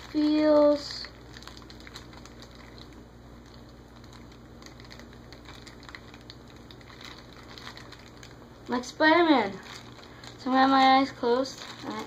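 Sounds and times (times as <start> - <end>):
low room hum: 0.0 - 12.0
plastic bag crinkling: 0.0 - 12.0.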